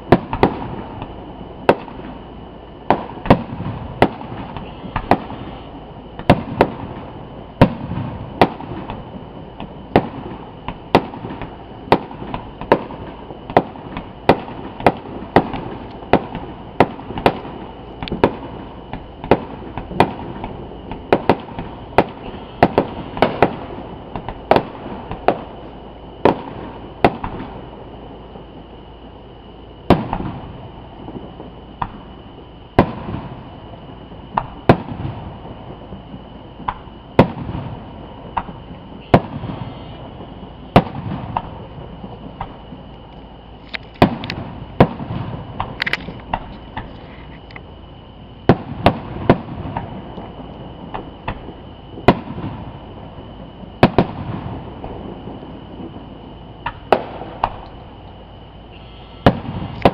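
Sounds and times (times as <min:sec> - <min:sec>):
fireworks bangs: 0:00.0 - 0:47.5, 0:48.2 - 0:59.9.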